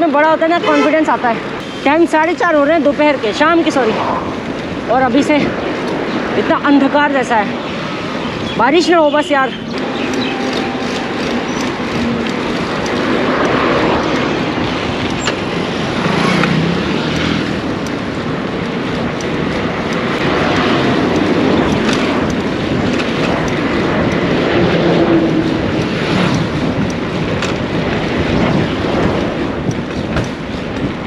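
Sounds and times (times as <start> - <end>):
passing motor traffic: 0.0 - 31.0
wind on microphone: 0.0 - 31.0.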